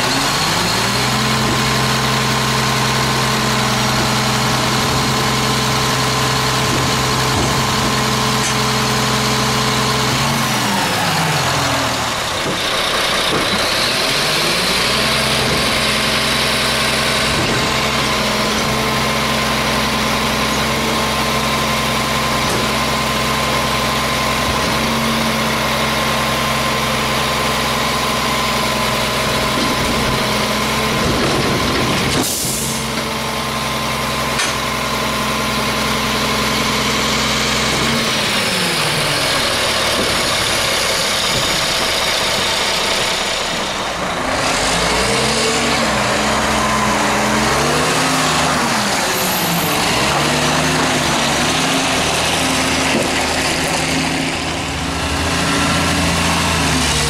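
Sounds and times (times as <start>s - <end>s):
garbage truck diesel engine idling: 0.0s - 45.2s, 45.9s - 57.0s.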